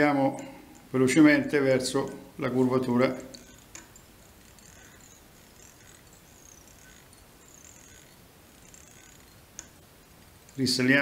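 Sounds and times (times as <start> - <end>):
low hiss: 0.0 - 11.0
thread scratching on hook: 2.0 - 11.0.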